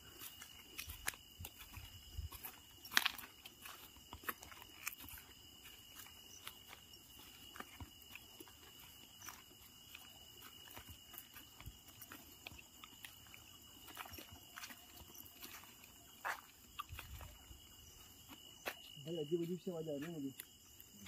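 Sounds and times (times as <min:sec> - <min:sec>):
footsteps crunching on leaves: 0:00.0 - 0:21.0.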